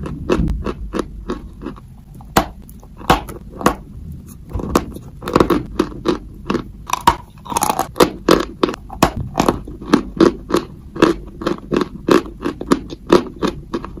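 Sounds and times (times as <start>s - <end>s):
biting and chewing chalk: 0.0s - 14.0s.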